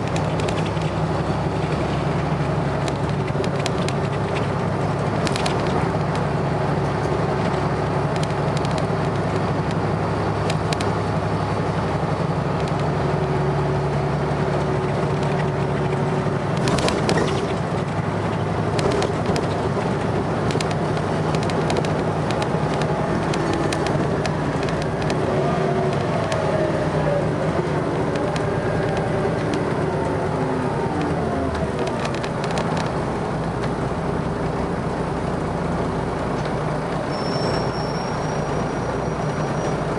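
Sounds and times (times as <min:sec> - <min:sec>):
diesel bus engine running: 0:00.0 - 0:39.9
drivetrain whining: 0:00.0 - 0:39.9.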